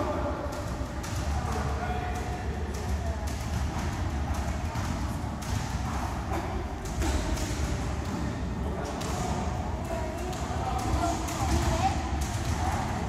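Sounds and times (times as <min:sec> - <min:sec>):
low gym rumble: 0:00.0 - 0:13.0.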